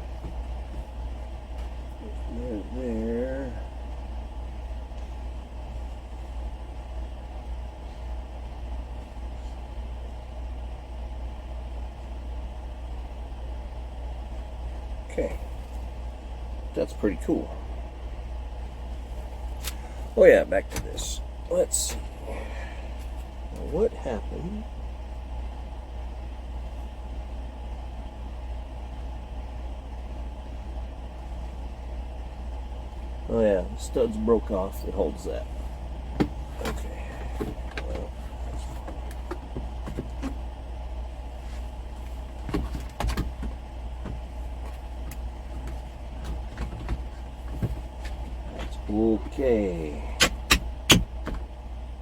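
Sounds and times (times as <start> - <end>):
low drone of running machinery: 0.0 - 52.0
low mechanical hum: 0.0 - 52.0.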